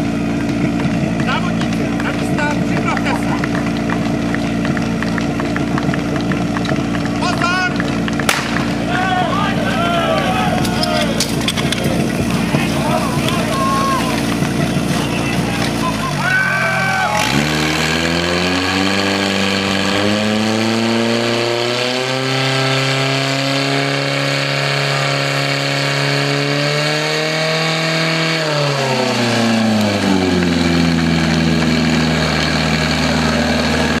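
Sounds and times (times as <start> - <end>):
pump engine revving: 0.0 - 34.0.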